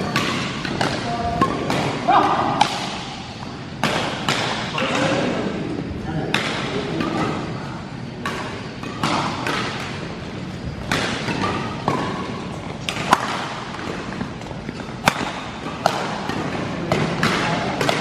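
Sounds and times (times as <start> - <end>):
racquets hitting shuttlecock: 0.0 - 18.0.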